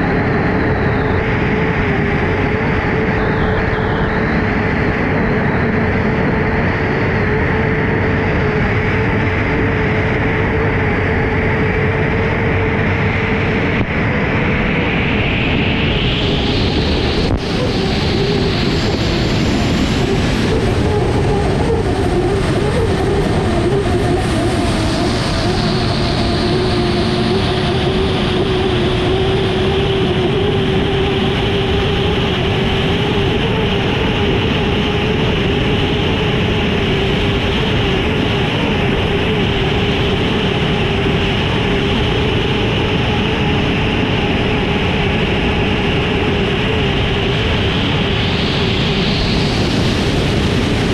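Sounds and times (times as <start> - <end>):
thin high whine: 0.0 - 50.9
wind and water rush: 0.0 - 50.9
gas-turbine engine running: 7.2 - 50.9.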